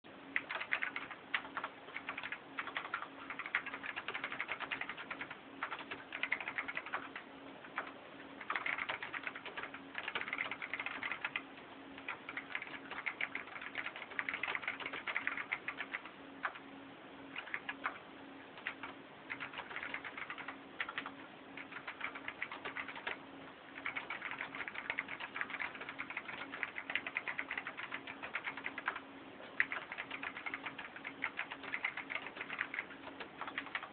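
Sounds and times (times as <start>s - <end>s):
fast mechanical keyboard typing: 0.3s - 16.6s, 17.3s - 18.0s, 18.6s - 23.2s, 23.8s - 33.9s.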